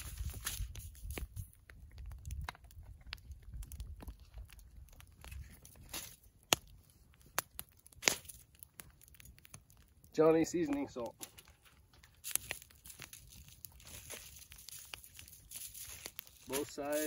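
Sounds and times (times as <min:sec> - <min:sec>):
aluminum foil crinkling: 0:00.0 - 0:17.0.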